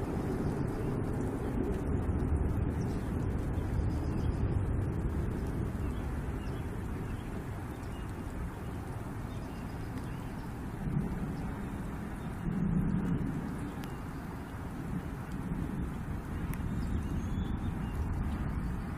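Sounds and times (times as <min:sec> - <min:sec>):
low thunder rumbling: 0:00.0 - 0:18.9.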